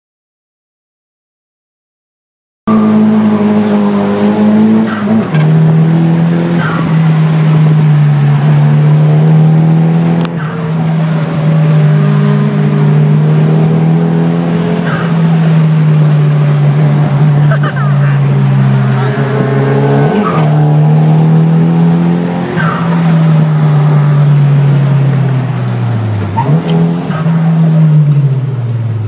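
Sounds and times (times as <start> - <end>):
car engine running hard: 2.7 - 29.0.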